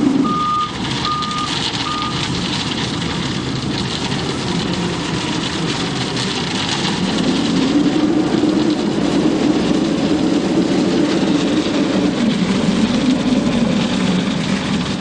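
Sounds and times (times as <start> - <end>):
noisy clatter: 0.0 - 15.0
truck engine drone: 0.0 - 15.0.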